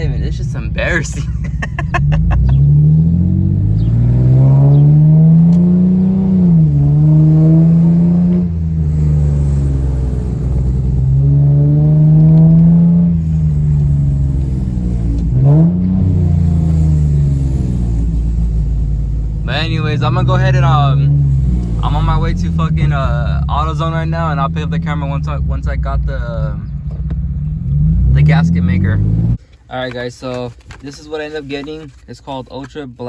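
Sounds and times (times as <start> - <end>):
car engine accelerating: 0.0 - 29.4
exhaust leak: 0.2 - 32.0.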